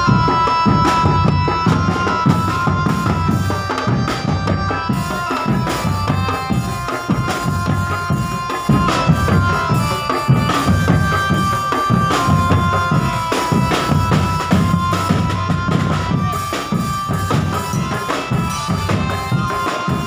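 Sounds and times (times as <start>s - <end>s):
bass drum and snares beat: 0.0s - 20.0s
high held-note melody: 0.0s - 20.0s.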